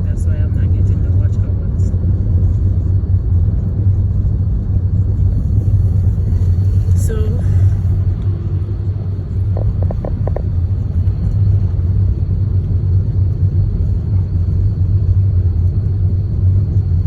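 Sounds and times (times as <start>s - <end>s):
car driving on snow: 0.1s - 17.0s.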